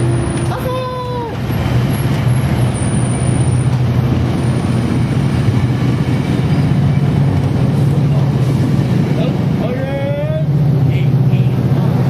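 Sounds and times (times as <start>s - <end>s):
low drone: 0.0s - 12.0s
train wheels rumbling on rails: 0.0s - 12.0s.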